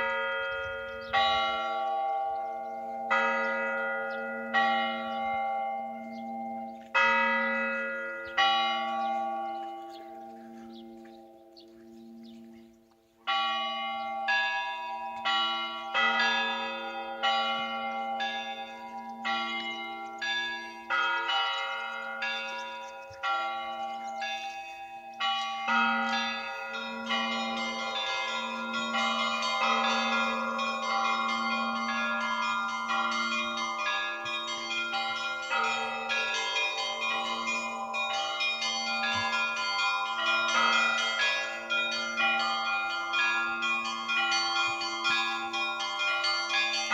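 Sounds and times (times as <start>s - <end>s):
large bell humming: 0.0s - 46.9s
small church bells ringing: 0.0s - 46.9s.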